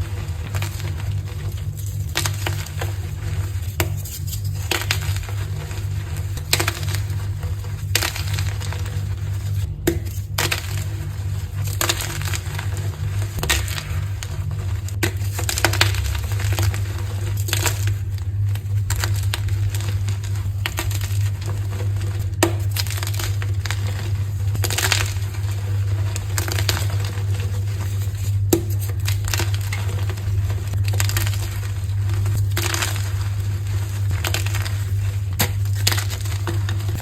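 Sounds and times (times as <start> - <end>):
chalk blocks crunching: 0.0 - 37.0
steady low hum: 0.0 - 37.0.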